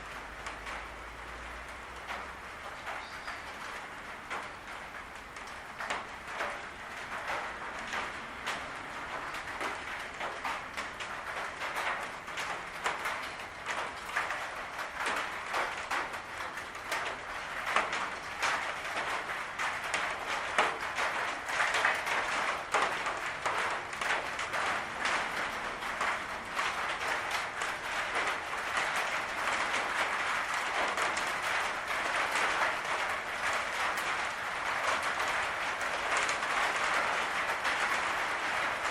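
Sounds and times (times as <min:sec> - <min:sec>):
rain on a roof: 0:00.0 - 0:38.9.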